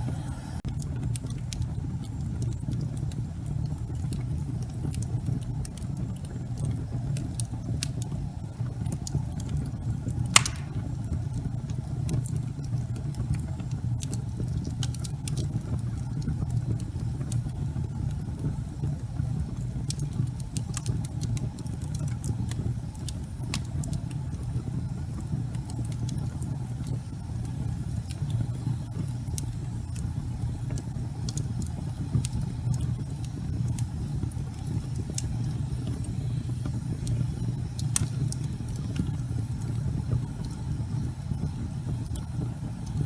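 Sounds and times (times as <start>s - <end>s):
low rumble of flames: 0.0s - 43.0s
burning logs popping and snapping: 0.7s - 43.0s.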